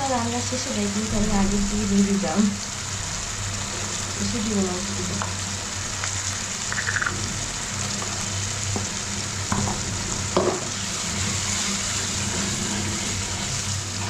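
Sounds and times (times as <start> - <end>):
spices sizzling in oil: 0.0 - 14.0.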